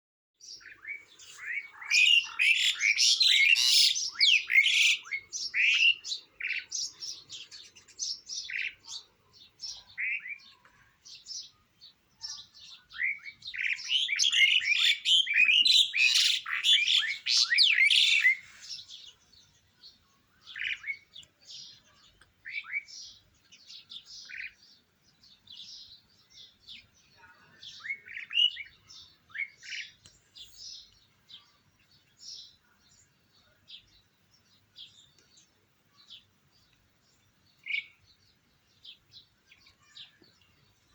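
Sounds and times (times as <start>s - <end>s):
bird chirping and twittering: 0.4s - 40.9s.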